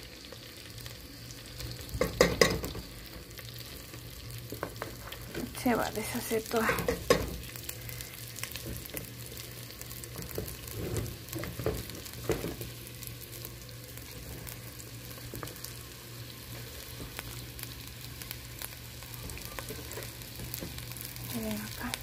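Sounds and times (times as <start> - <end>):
oil sizzling in a pot: 0.0 - 22.0.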